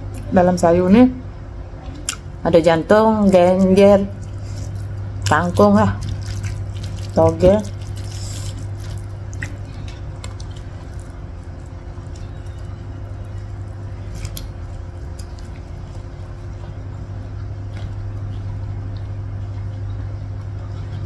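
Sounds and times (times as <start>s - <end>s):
steady low hum: 0.0s - 21.0s
person chewing vegetables: 3.2s - 21.0s.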